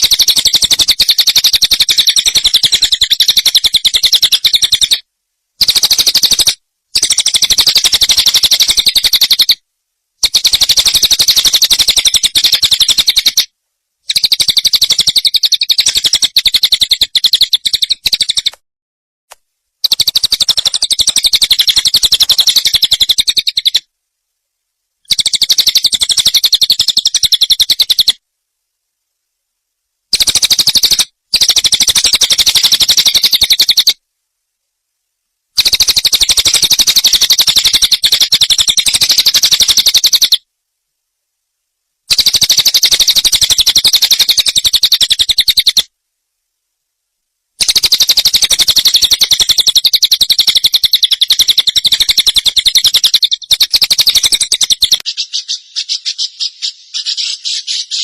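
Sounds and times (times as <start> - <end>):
songbird fast trill: 0.0 - 9.6, 10.2 - 18.6, 19.8 - 23.9, 25.0 - 28.2, 30.1 - 34.0, 35.6 - 40.5, 42.1 - 45.9, 47.6 - 58.0.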